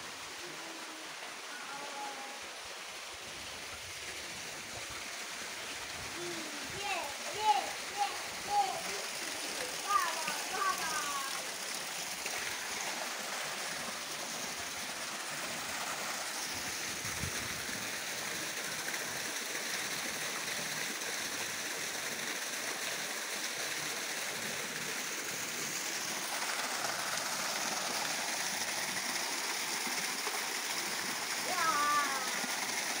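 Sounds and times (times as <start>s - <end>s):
water pouring into stone basins: 0.0s - 33.0s.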